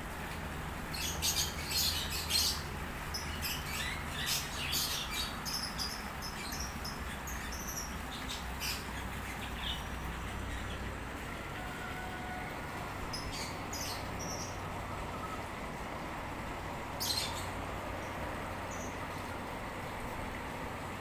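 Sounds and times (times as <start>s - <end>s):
low background hum: 0.0s - 21.0s
small birds chirping: 0.3s - 11.2s, 13.0s - 19.4s.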